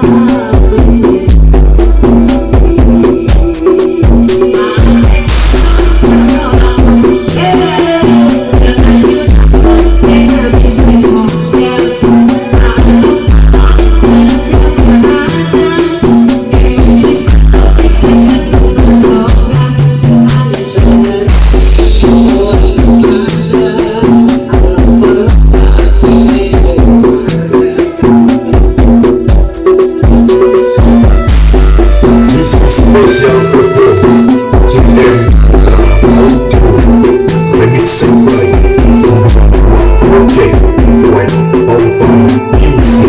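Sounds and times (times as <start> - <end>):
loud dance music with heavy bass: 0.0 - 43.0.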